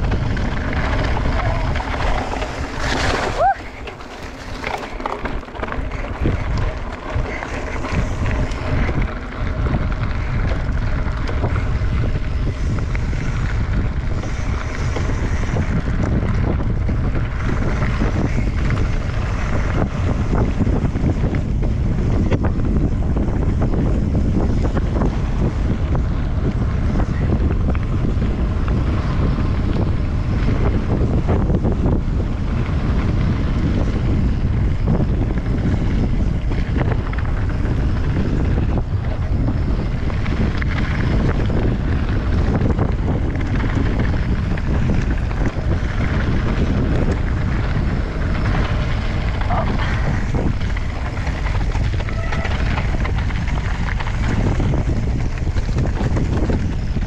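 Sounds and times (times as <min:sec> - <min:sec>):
bike clicks and rattles: 0:00.0 - 0:57.0
tyres rolling over gravel: 0:00.0 - 0:57.0
wind buffeting microphone: 0:00.0 - 0:57.0.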